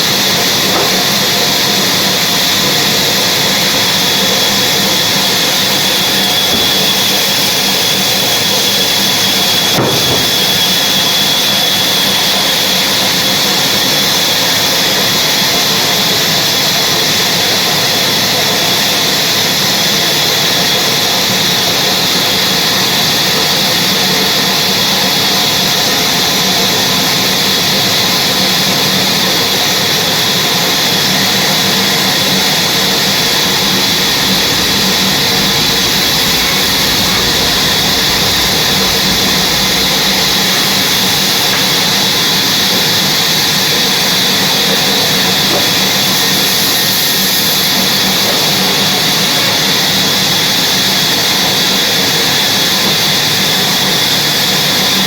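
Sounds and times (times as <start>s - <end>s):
sawmill machinery hissing and whining: 0.0s - 55.0s.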